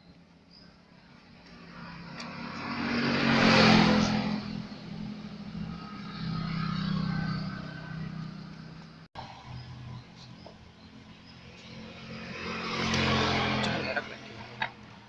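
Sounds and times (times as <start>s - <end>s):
vehicle engine: 0.0s - 15.0s.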